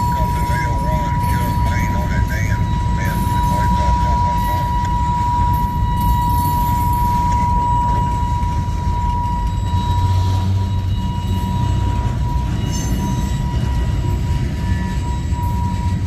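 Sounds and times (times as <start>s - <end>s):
thin high tone: 0.0s - 16.0s
train wheels rumbling on rails: 0.0s - 16.0s.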